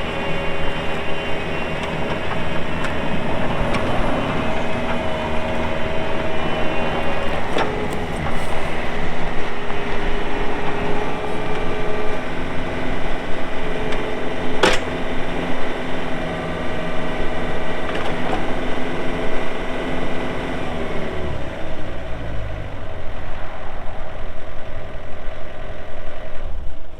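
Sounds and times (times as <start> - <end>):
steady whining tone: 0.0 - 26.0
excavator diesel engine running: 0.0 - 26.2.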